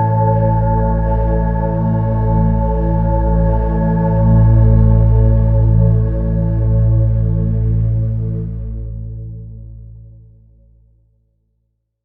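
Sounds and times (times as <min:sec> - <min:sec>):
slow ambient organ music: 0:00.0 - 0:09.8.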